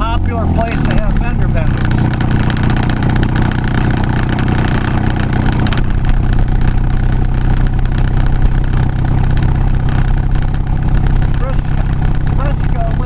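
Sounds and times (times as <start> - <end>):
car engine running: 0.0 - 13.0
tyre and road noise: 0.0 - 13.0.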